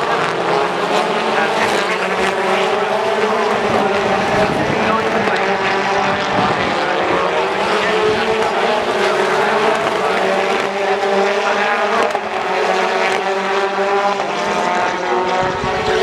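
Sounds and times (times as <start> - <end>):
race car engines at high revs: 0.0 - 16.0.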